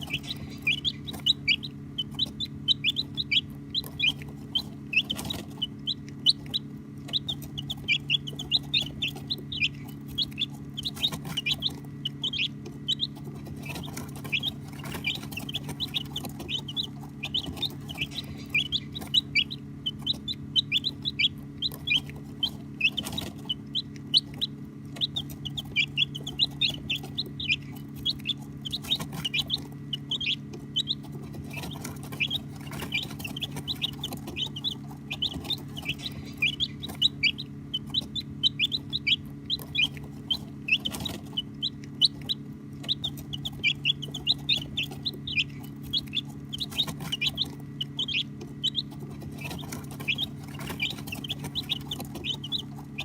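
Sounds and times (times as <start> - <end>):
baby chicks peeping: 0.0 - 53.0
steady low hum: 0.0 - 53.0.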